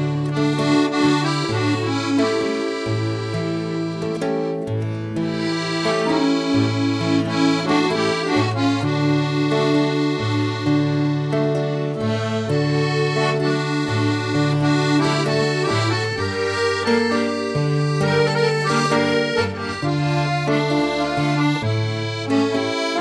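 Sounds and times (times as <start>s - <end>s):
accordion playing: 0.0s - 23.0s.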